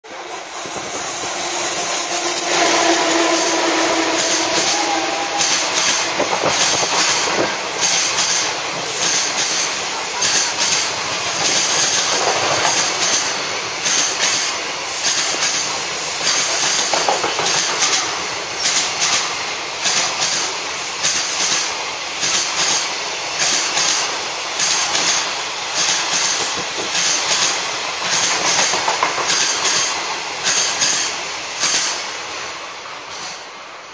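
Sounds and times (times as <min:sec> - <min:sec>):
freight train wheels clattering: 0:00.1 - 0:32.4.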